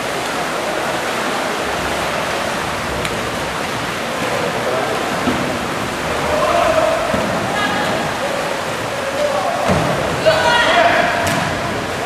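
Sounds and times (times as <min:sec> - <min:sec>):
echoing water wash from paddling: 0:00.0 - 0:12.0.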